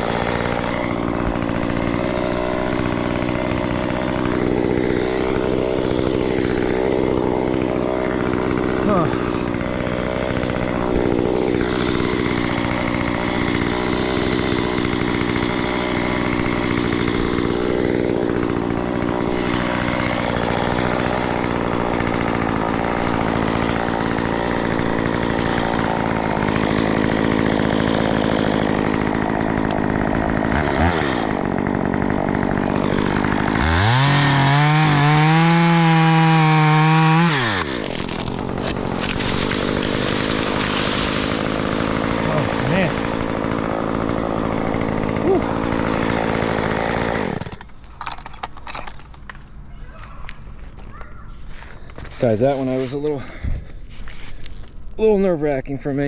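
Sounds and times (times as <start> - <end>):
chainsaw running and revving: 0.0 - 48.1, 51.6 - 53.4.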